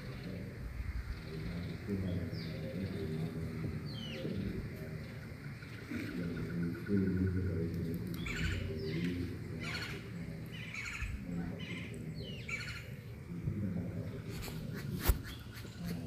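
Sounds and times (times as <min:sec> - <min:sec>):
birds chirping: 0:00.0 - 0:16.0
low background murmur: 0:00.0 - 0:16.0.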